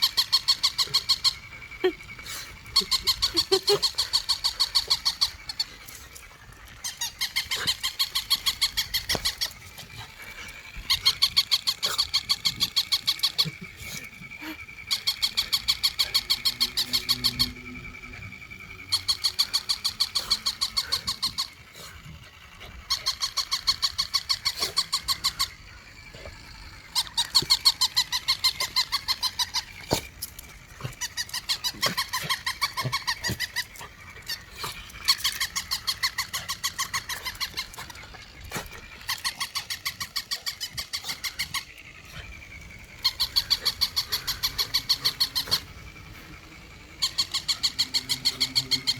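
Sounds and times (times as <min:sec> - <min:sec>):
toy dog electronic pulses: 0:00.0 - 0:48.9.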